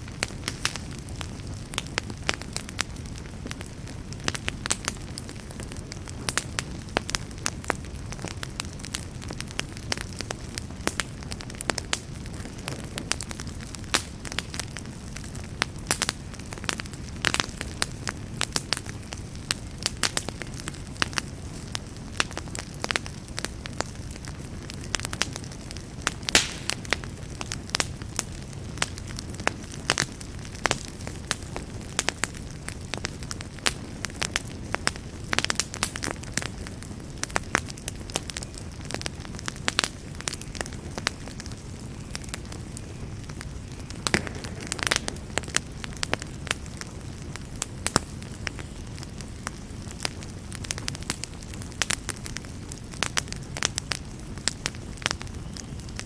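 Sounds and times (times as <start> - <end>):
fire crackling and popping: 0.0 - 56.0
fire flames rumbling: 0.0 - 56.0.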